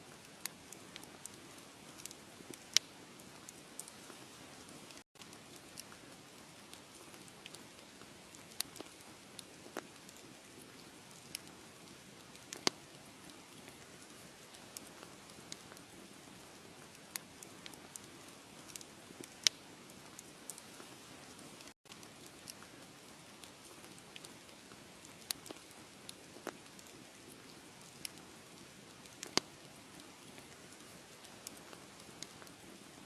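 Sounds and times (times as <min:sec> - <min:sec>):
wood fire crackling: 0:00.1 - 0:33.0.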